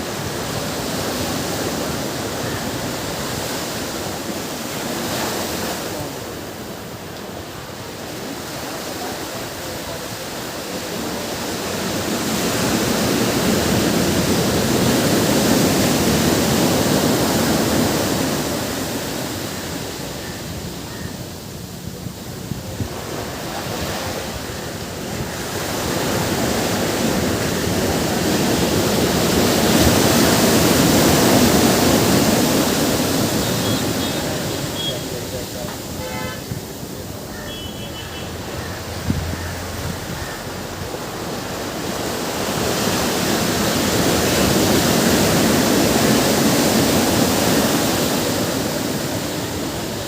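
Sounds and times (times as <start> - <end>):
ocean waves on beach: 0.0 - 50.0.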